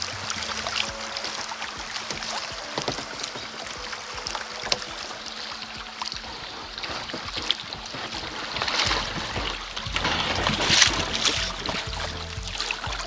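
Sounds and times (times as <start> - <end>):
paddle strokes splashing: 0.0 - 13.0
water dripping: 0.0 - 13.0
water rushing along hull: 0.0 - 13.0.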